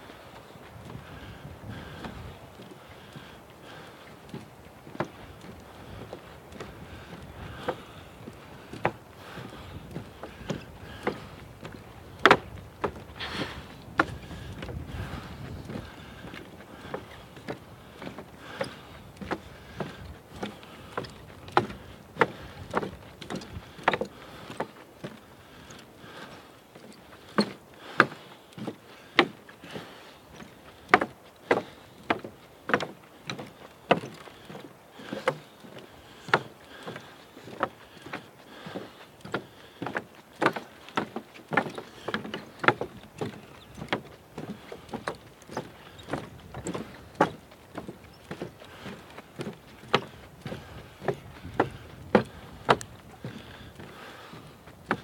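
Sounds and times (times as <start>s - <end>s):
footsteps on wooden boardwalk: 0.0s - 55.0s.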